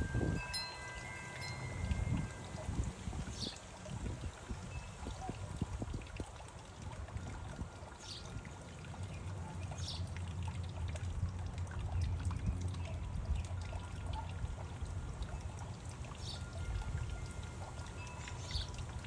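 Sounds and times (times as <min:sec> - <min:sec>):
fountain water trickling: 0:00.0 - 0:19.0.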